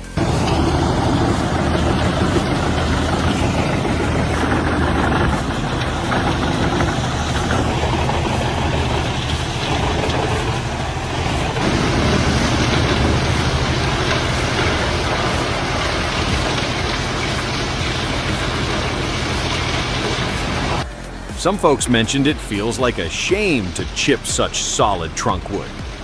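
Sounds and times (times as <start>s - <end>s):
wood chipper grinding wood: 0.0s - 21.3s, 21.9s - 26.0s
diesel machinery running: 0.0s - 26.0s.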